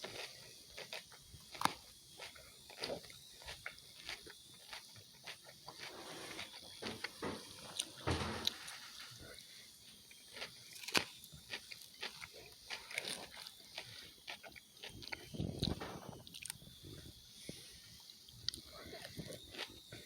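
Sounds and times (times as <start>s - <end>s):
chewing salad: 0.0s - 17.1s, 18.0s - 20.0s.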